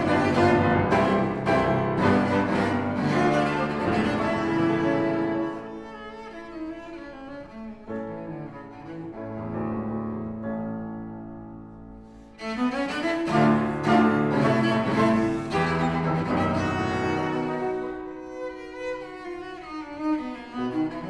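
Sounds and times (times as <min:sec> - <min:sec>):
cello: 0:00.0 - 0:21.0
piano: 0:00.0 - 0:21.0.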